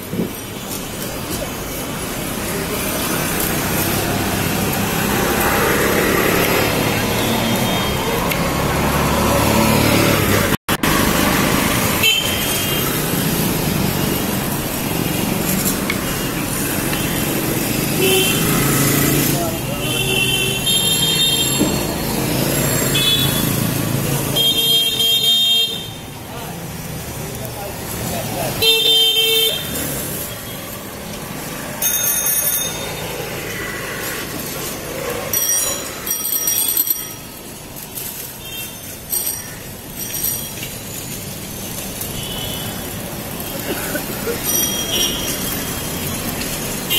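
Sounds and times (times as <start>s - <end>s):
busy street noise: 0.0s - 46.9s
passing vehicles rumble: 0.0s - 46.9s.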